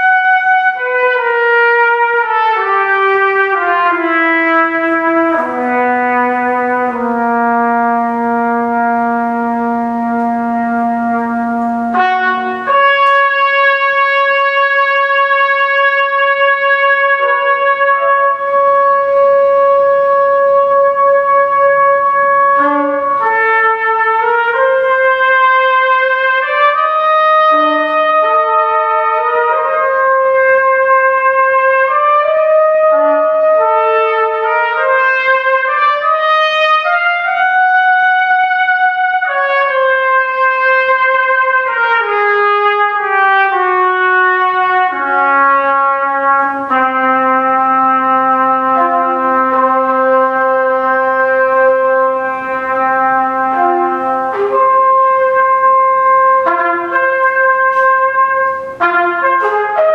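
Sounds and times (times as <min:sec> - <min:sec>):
trumpet duet: 0:00.0 - 0:59.9.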